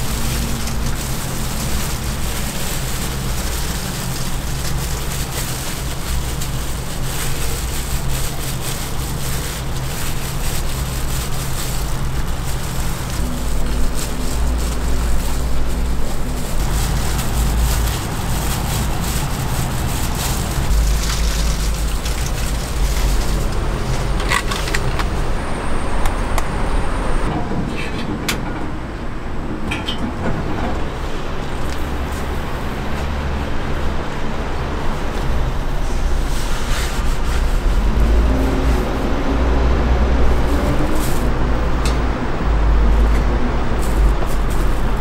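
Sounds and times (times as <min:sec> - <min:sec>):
rumbling background hum: 0:00.0 - 0:45.0.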